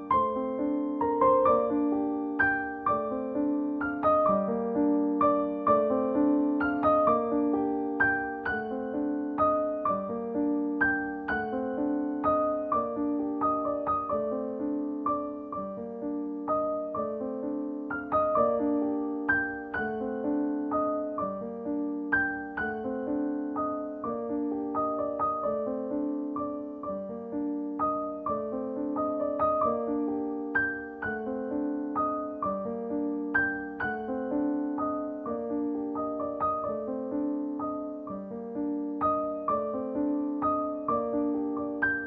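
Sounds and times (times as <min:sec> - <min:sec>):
gentle piano piece: 0:00.0 - 0:42.0.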